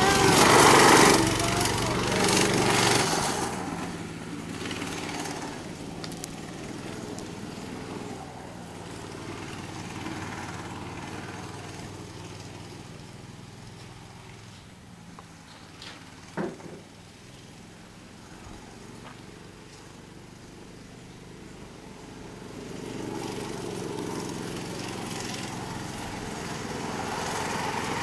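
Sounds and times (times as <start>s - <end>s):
kart engine passing at speed: 0.0s - 28.0s.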